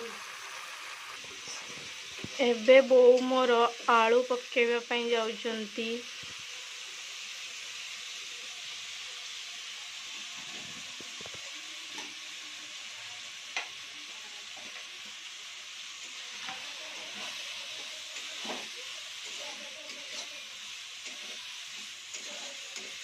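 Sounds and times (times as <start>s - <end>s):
sauce sizzling in oil: 0.0s - 23.0s.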